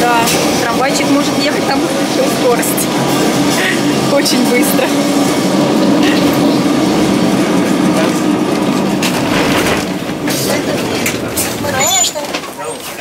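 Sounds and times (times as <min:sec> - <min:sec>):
tram body rattling and creaking: 0:00.0 - 0:13.0
tram wheels rumbling on rails: 0:00.0 - 0:13.0.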